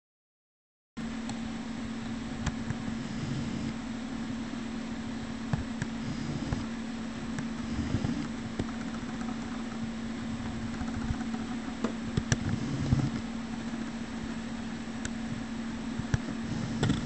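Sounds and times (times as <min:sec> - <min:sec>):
low machine hum: 0:01.0 - 0:17.0.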